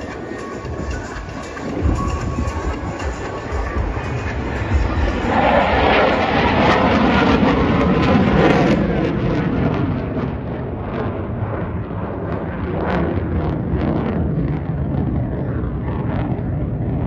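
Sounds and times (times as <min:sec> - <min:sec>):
jet engine roaring: 0:00.0 - 0:17.0.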